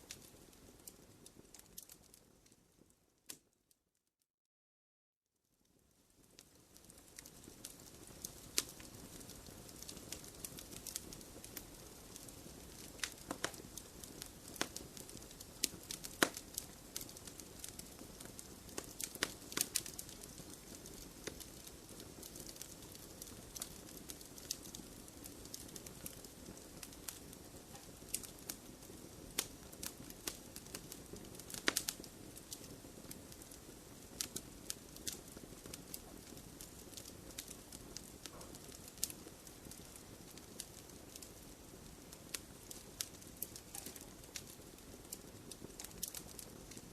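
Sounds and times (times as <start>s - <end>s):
wood fire crackling: 0.0s - 3.5s, 5.6s - 46.9s.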